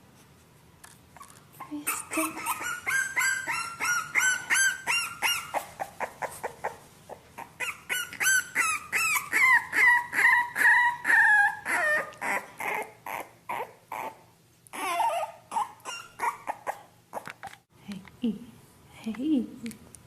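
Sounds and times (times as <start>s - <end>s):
puppy squealing and whining: 1.1s - 17.7s.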